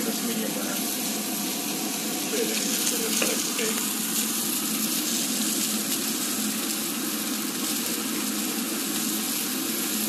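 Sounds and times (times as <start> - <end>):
steak sizzling in a pan: 0.0 - 10.0.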